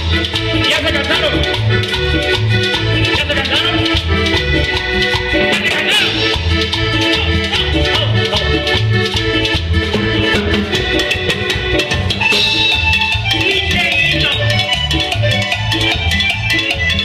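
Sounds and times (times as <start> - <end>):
bass: 0.0 - 17.0
electronic keyboard: 0.0 - 17.0
live band playing dance music: 0.0 - 17.0
percussion beat: 0.0 - 17.0.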